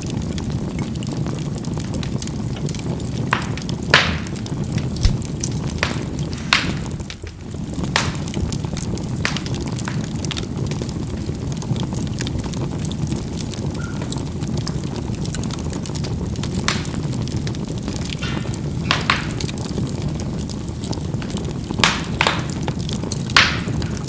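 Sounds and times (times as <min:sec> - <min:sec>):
charcoal crackling and popping: 0:00.0 - 0:24.0
fire rushing: 0:00.0 - 0:24.0.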